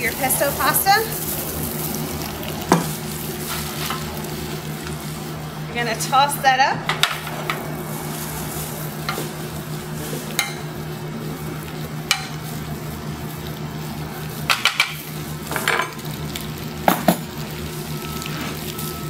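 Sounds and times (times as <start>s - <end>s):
pan sizzling: 0.0s - 19.0s.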